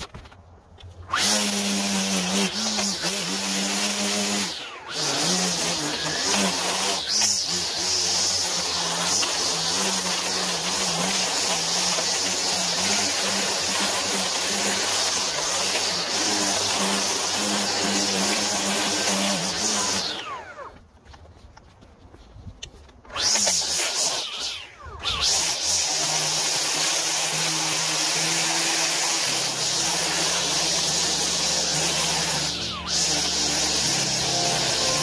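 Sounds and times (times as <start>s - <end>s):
small gas engine running: 1.1s - 20.8s, 23.0s - 35.0s.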